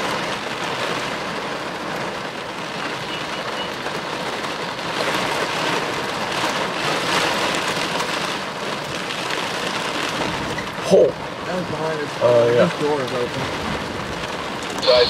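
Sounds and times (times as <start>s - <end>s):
heavy rain on car windshield: 0.0s - 15.0s.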